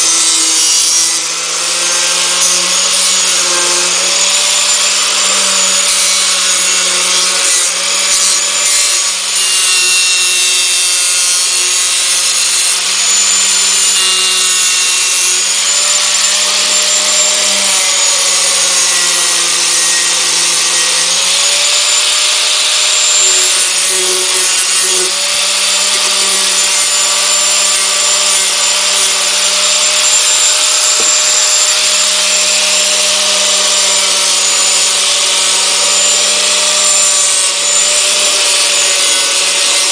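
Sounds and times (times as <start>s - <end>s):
angle grinder grinding wood: 0.0s - 39.9s.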